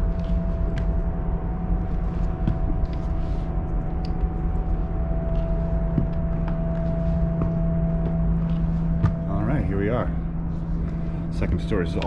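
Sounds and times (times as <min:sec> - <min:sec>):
footsteps climbing steps: 0:00.0 - 0:12.0
low droning hum: 0:00.0 - 0:12.0.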